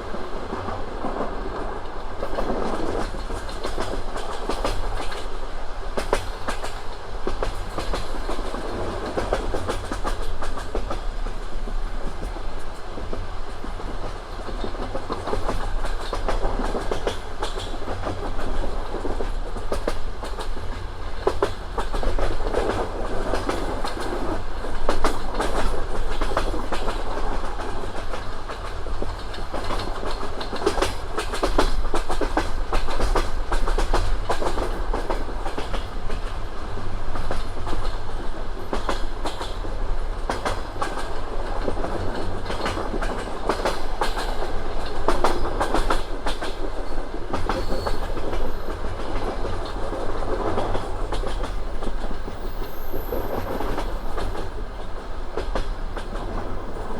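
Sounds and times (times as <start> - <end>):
train rolling rumble: 0.0 - 56.9
train wheels clattering over rail joints: 0.2 - 56.9.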